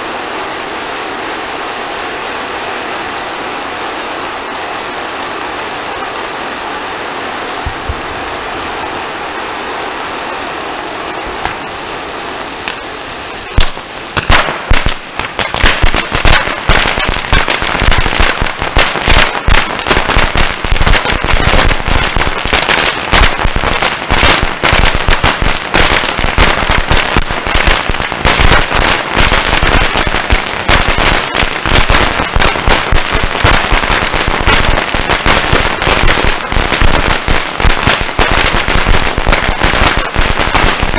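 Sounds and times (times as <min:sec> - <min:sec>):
firework crackling and popping: 0:00.0 - 0:40.9
fountain firework hissing: 0:00.0 - 0:40.9.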